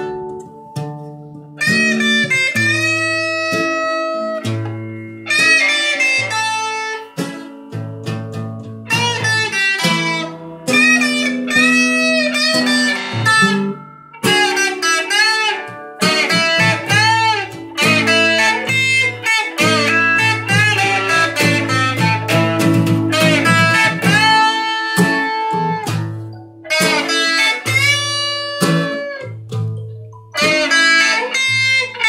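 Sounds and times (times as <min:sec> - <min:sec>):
acoustic guitar blues: 0:00.0 - 0:32.0
electric guitar lead: 0:00.0 - 0:32.0.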